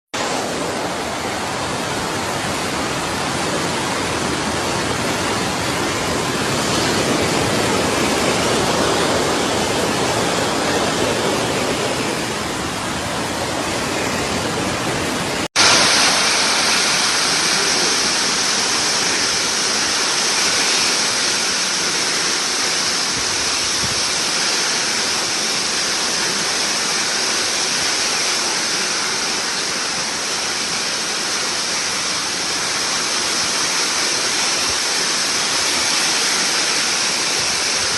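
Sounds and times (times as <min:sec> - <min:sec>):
heavy rain pouring: 0:00.2 - 0:37.9.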